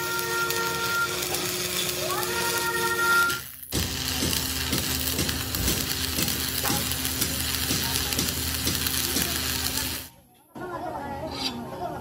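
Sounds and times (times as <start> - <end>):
arc welding crackling hiss: 0.0 - 10.1.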